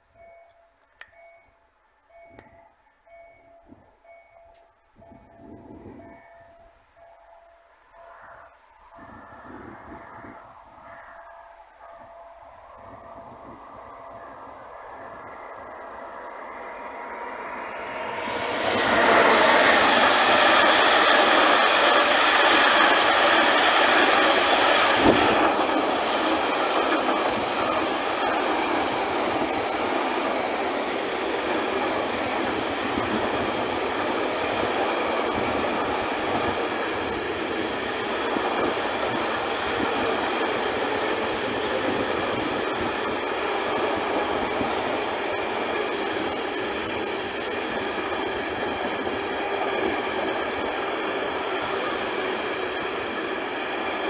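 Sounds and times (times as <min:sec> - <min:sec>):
train wheels rushing on rail: 0:03.4 - 0:54.0.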